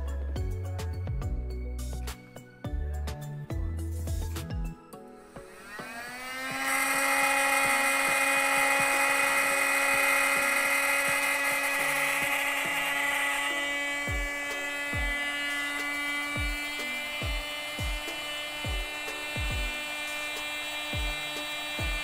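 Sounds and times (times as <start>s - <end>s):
electric air pump whining: 3.8s - 22.0s.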